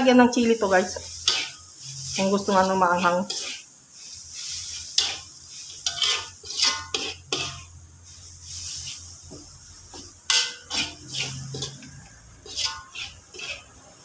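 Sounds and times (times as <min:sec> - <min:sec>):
metal spatula scraping a wok: 0:00.0 - 0:14.0.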